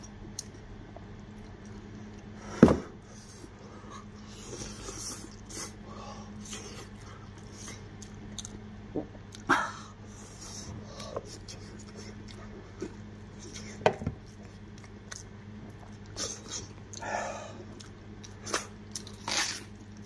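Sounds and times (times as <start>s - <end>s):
man chewing with mouth smacks: 0.0s - 2.4s, 4.0s - 9.5s, 10.2s - 20.0s
steady low hum: 0.0s - 20.0s.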